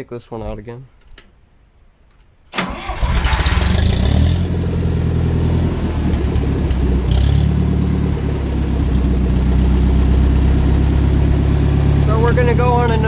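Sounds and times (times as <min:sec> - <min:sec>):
tractor engine cranking and idling: 0:02.5 - 0:13.0.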